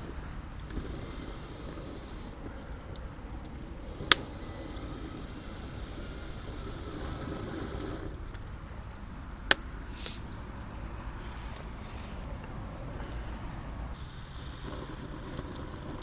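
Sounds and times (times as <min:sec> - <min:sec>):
burning firewood cracking: 0:00.0 - 0:16.0.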